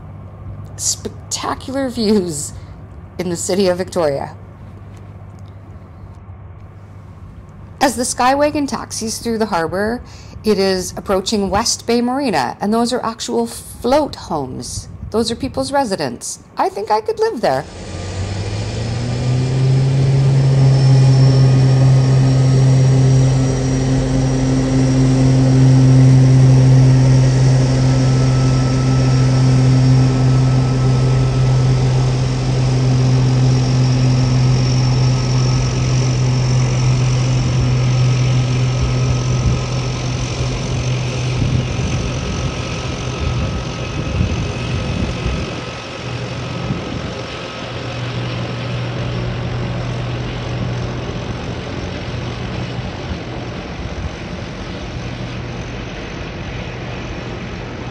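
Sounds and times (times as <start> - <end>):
floatplane engine drone: 0.0 - 14.0, 16.5 - 57.9.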